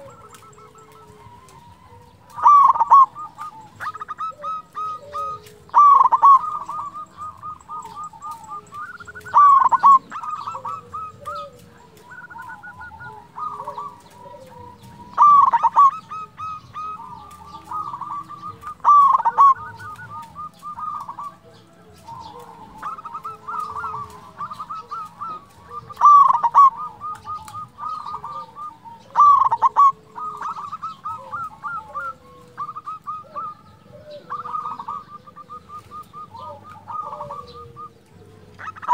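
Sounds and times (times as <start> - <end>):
dove cooing in staccato notes: 0.0 - 38.9
faint gliding bird calls: 0.0 - 38.9
loud rolling coo phrase: 0.0 - 38.9.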